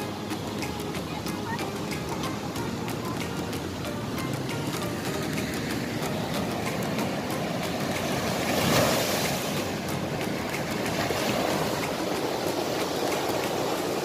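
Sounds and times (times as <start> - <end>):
waves breaking on sandy shore: 0.0 - 14.0.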